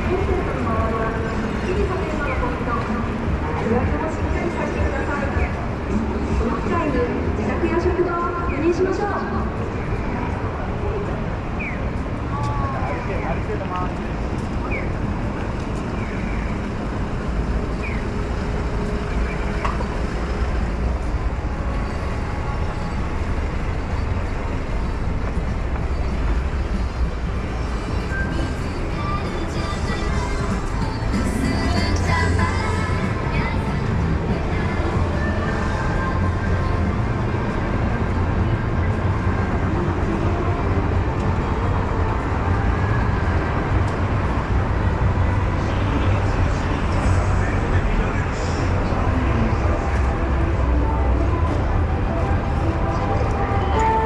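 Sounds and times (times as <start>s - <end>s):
low rumble of road traffic: 0.0s - 54.0s.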